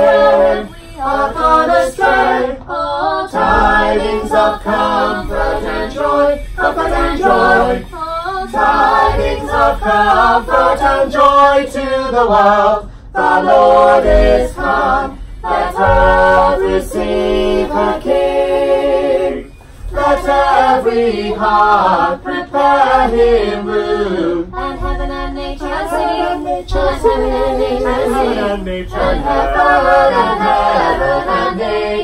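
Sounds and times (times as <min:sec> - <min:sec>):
voices singing a cappella: 0:00.0 - 0:32.0.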